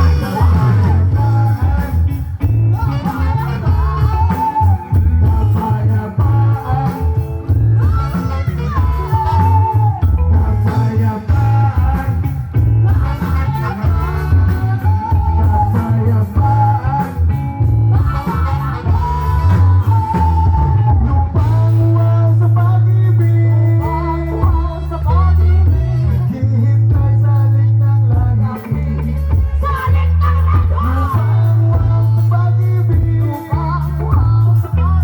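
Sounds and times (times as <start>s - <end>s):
bending lead guitar melody: 0.0s - 35.0s
rock band music: 0.0s - 35.0s.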